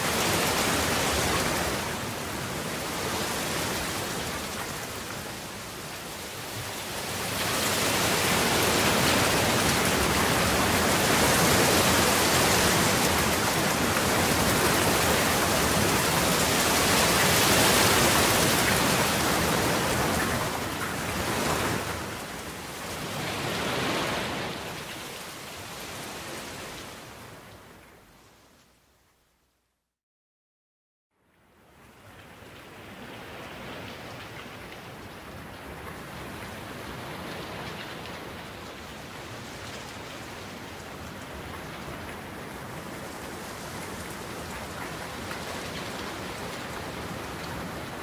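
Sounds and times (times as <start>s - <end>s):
rain falling: 0.0s - 28.0s, 31.3s - 48.0s.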